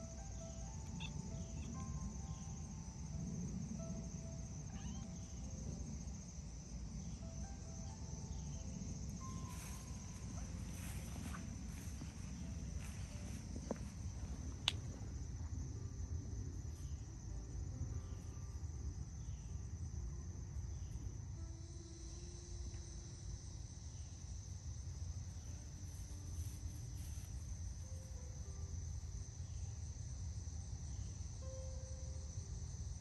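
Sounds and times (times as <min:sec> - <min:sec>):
crickets chirping: 0:00.0 - 0:33.0
low outdoor rumble: 0:00.0 - 0:33.0.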